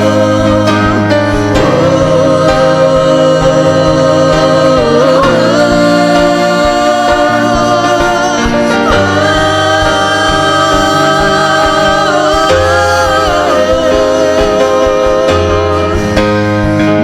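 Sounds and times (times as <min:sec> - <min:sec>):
worship music with singing: 0:00.0 - 0:17.0.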